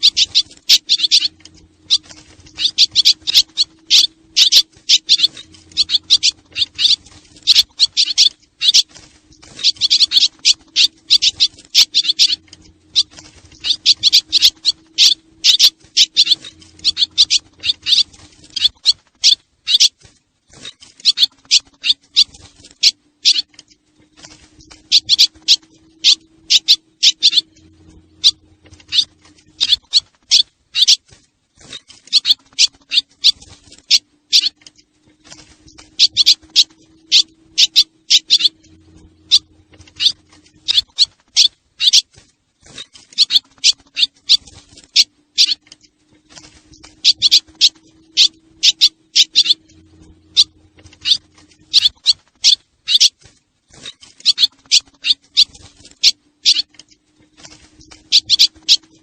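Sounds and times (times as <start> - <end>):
faint low hum: 0.0 - 59.0
swallows twittering chirps: 0.0 - 59.0.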